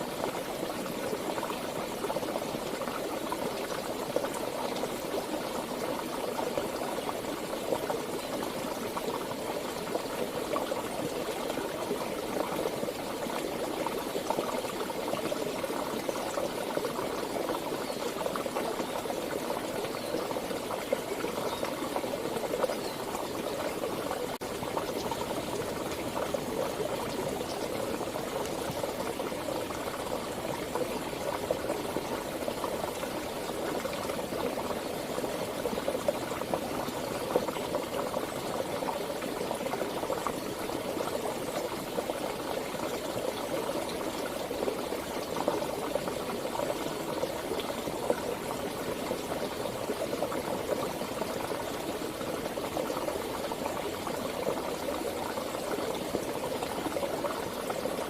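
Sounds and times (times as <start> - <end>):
stream water flowing and gurgling: 0.0 - 58.0.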